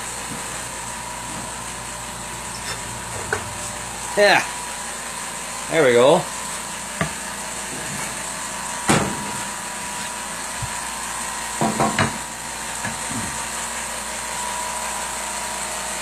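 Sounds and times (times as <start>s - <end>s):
machine hum: 0.0s - 14.5s.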